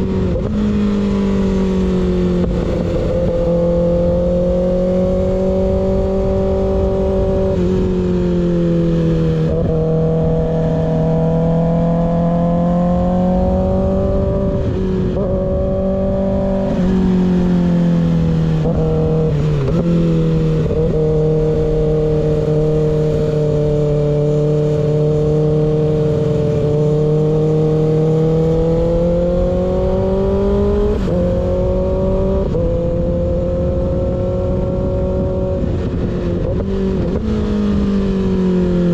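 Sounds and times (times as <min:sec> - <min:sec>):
motorcycle engine revving: 0:00.0 - 0:38.9
wind rumble: 0:00.0 - 0:38.9.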